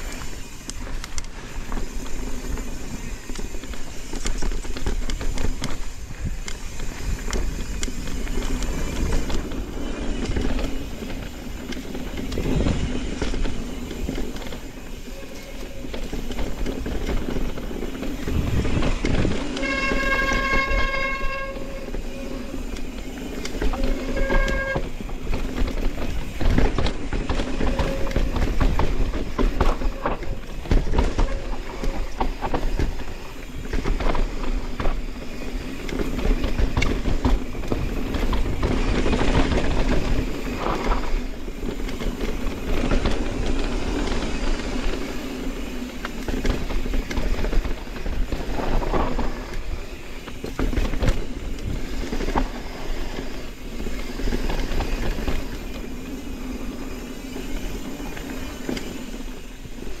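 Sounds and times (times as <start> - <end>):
bike rattling and knocking: 0.0 - 60.0
tyres rolling on dirt: 0.0 - 60.0
wind rushing over microphone: 0.0 - 60.0.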